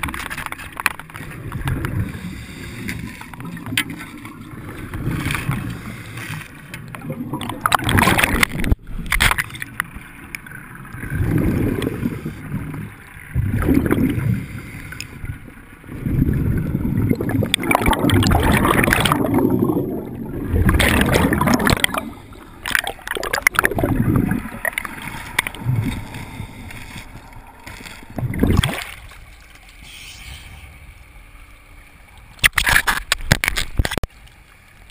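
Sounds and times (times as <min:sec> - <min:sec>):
underwater bubbles gurgling: 0:00.0 - 0:29.5
water splashing: 0:00.0 - 0:34.9.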